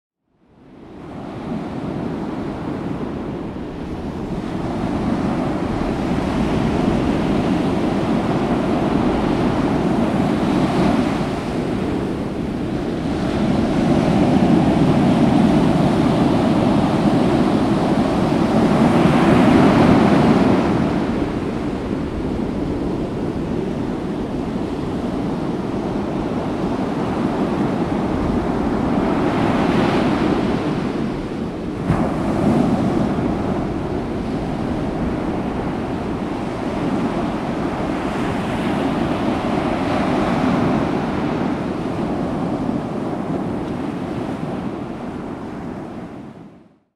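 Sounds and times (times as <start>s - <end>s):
storm wind gusting: 0.9s - 46.4s.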